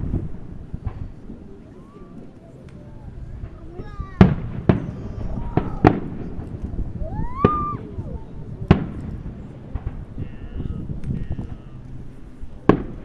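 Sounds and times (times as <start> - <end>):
firework bangs: 0.0 - 13.0
low rumble of firework bursts: 0.0 - 13.0.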